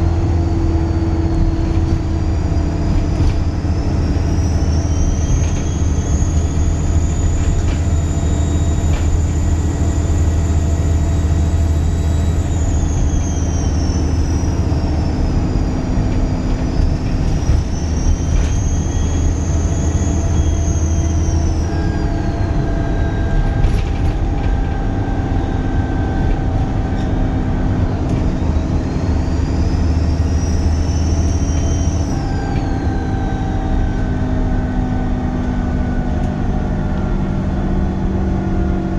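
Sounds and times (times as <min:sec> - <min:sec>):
bus diesel engine drone: 0:00.0 - 0:38.9
turbocharger whistle: 0:00.1 - 0:38.0.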